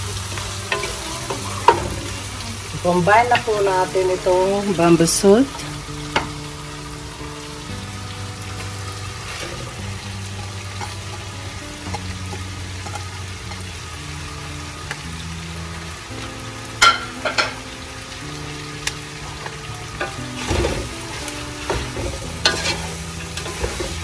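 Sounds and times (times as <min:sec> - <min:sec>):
food sizzling in a pot: 0:00.0 - 0:24.0
soft background music: 0:00.0 - 0:24.0.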